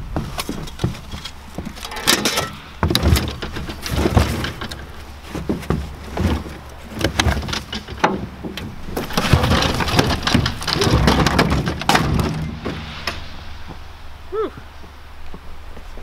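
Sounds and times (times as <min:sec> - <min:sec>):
lawn mower scraping: 0:00.0 - 0:13.8
clattering metal and plastic knocks: 0:00.4 - 0:13.2.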